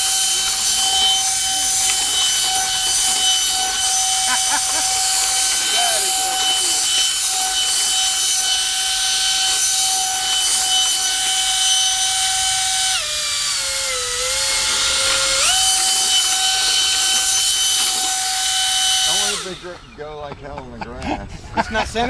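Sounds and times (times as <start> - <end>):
boat motor whine: 0.0 - 20.1
propeller air rush: 0.0 - 21.5.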